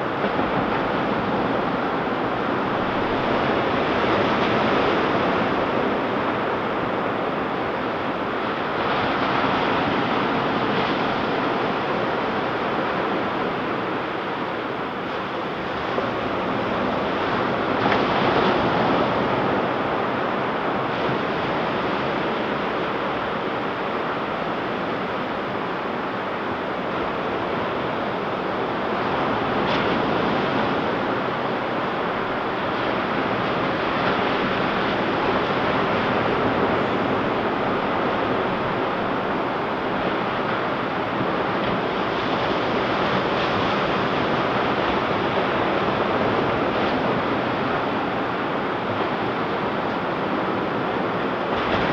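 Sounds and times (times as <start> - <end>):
ocean surf washing onto beach: 0.0 - 51.9.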